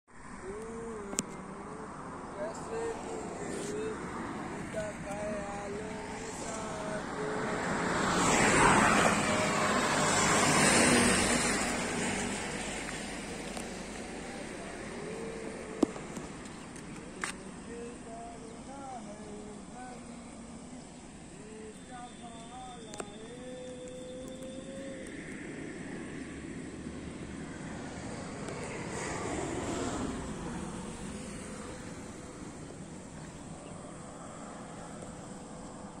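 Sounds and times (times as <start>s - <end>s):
vehicles passing at speed: 0.1s - 36.0s
low traffic noise: 0.2s - 36.0s.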